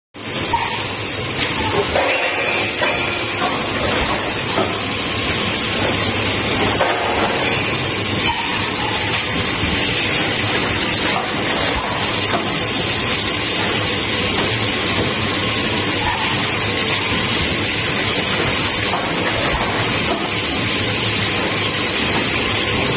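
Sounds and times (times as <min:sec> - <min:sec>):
blow moulding machine running: 0:00.2 - 0:22.9.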